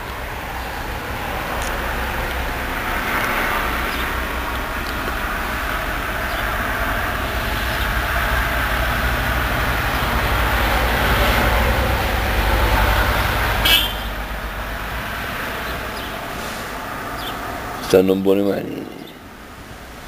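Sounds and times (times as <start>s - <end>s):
distant engine rumble: 0.0s - 20.0s.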